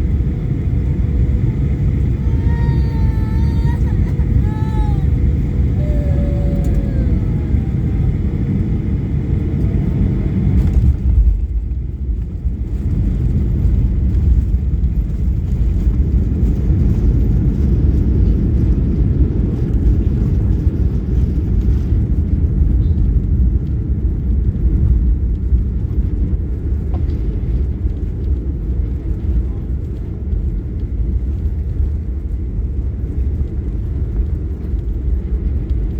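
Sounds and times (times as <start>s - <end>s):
moving vehicle rumble: 0.0s - 35.9s.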